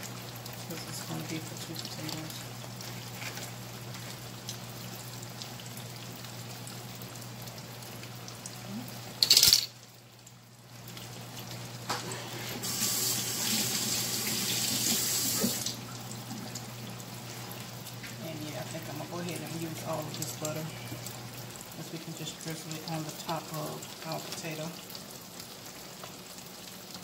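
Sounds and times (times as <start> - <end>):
fish sizzling in oil: 0.0 - 15.6, 16.2 - 27.0.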